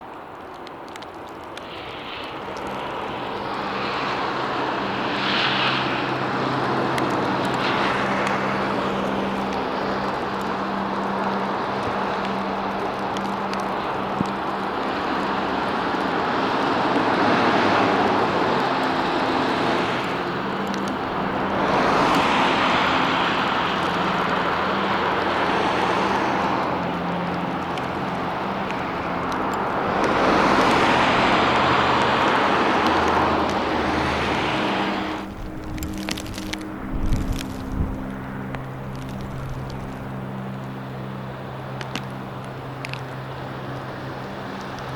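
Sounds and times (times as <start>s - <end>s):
rushing storm wind: 0.0s - 44.9s.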